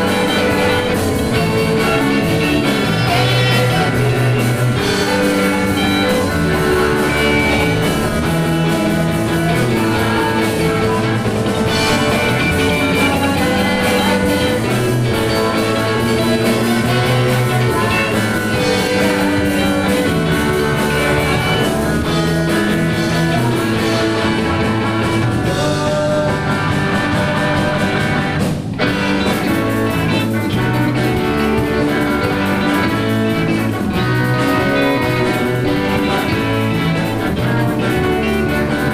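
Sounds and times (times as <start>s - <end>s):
electric guitar: 0.0s - 38.9s
rock band playing: 0.0s - 38.9s.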